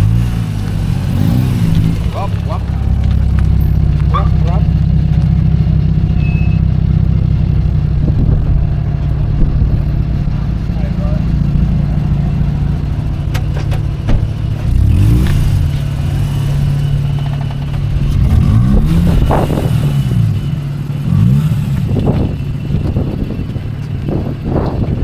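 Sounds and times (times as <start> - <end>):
rotary engine idling and revving: 0.0 - 25.0.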